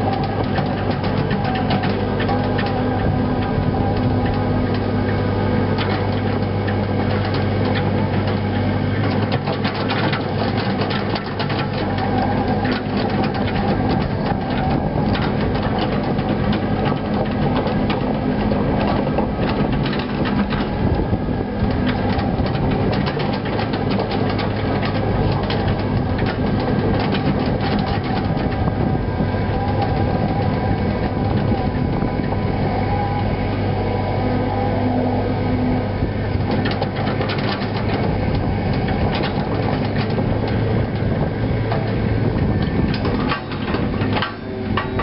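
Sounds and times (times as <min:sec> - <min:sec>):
diesel engine running: 0:00.0 - 0:45.0
excavator tracks clattering: 0:00.0 - 0:45.0.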